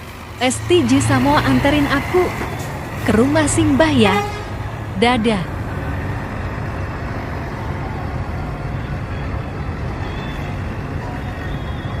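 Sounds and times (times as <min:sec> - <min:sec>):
bus engine low rumble: 0:00.0 - 0:12.0.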